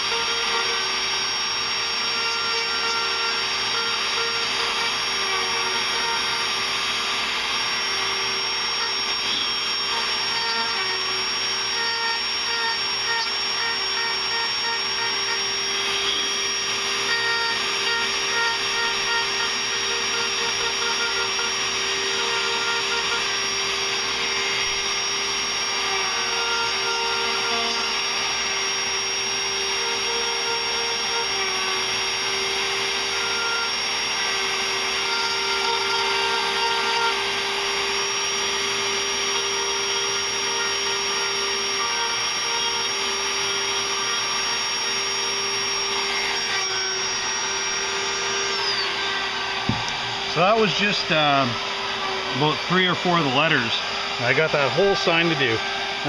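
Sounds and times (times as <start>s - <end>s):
small high-speed power tool on wood: 0.0s - 56.0s.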